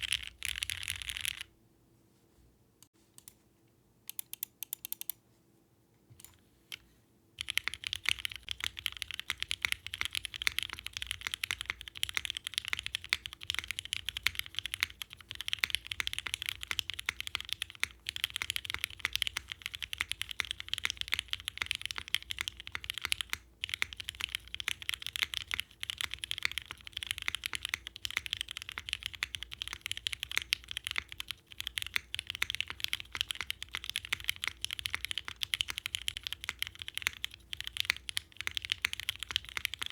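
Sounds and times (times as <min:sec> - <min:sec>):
fast typing on keyboard: 0:00.0 - 0:01.5, 0:07.4 - 0:39.9.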